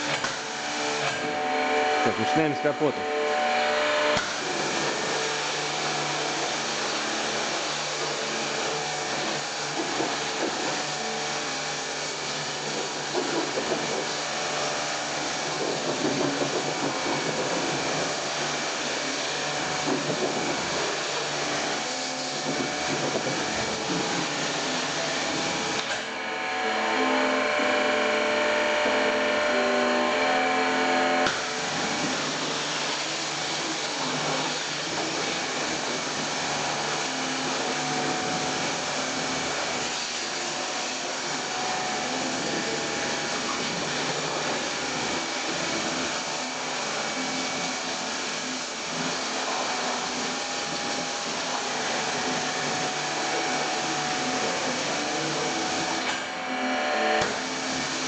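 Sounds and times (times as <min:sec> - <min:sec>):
pressure washer spraying water: 0:00.0 - 0:26.3, 0:26.9 - 0:56.3, 0:57.2 - 0:58.0.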